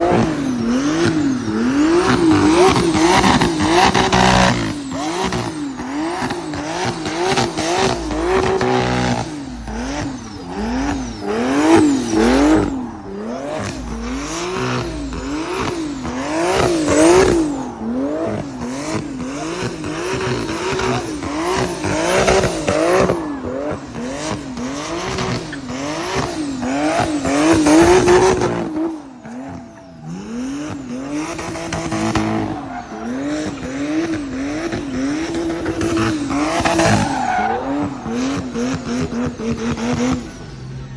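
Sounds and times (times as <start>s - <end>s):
car engine revving: 0.0s - 40.9s
tyres squealing: 0.6s - 40.8s.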